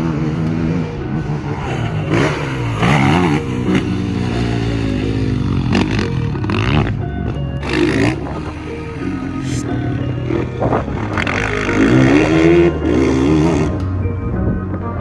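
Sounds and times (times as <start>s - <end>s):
dirt bike engine revving: 1.5s - 13.8s.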